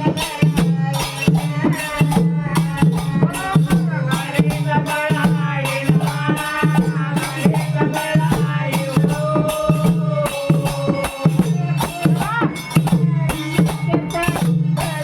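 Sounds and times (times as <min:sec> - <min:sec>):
percussion strokes: 0:00.0 - 0:15.0.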